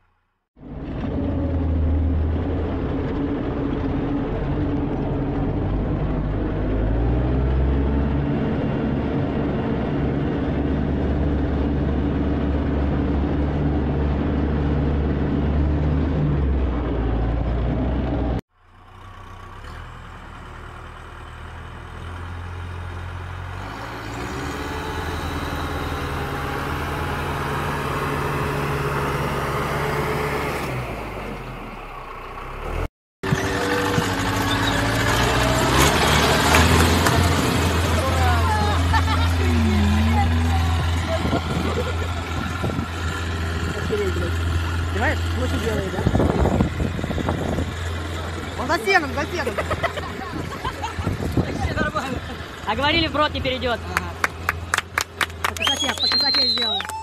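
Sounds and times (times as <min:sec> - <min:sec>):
tractor engine working in mud: 0:00.6 - 0:56.9
tractor diesel engine under load: 0:00.6 - 0:57.0.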